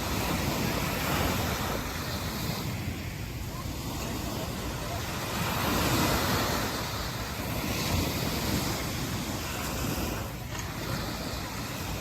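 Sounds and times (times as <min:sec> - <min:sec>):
ocean surf washing in: 0:00.0 - 0:12.0
wind rumbling on microphone: 0:00.0 - 0:12.0.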